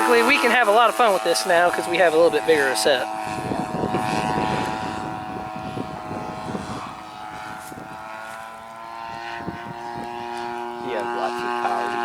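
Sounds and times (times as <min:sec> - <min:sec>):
model airplane engine drone: 0:00.0 - 0:12.0
wind buffeting microphone: 0:00.0 - 0:12.0.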